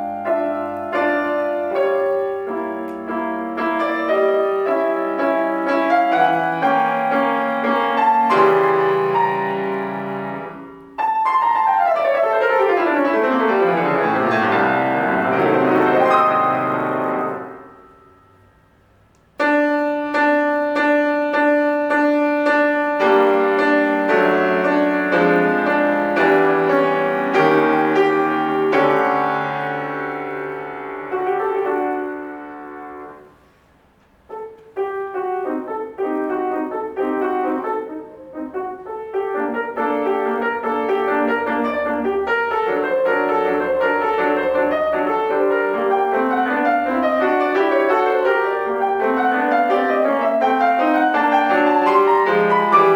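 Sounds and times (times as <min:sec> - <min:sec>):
solo classical piano: 0:00.0 - 0:52.9.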